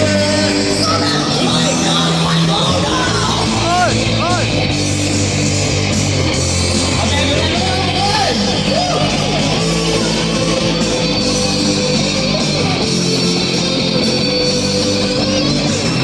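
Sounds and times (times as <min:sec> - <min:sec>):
bass guitar: 0:00.0 - 0:16.0
distorted electric guitars: 0:00.0 - 0:16.0
drum kit: 0:00.0 - 0:16.0.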